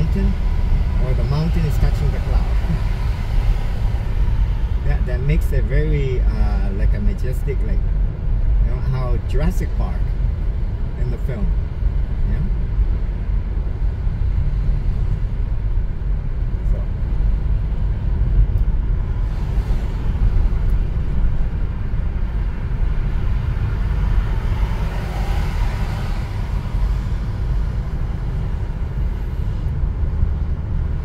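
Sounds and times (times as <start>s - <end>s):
rush of passing traffic: 0.0s - 8.7s, 9.8s - 31.0s
car engine and tyre rumble: 0.0s - 31.0s.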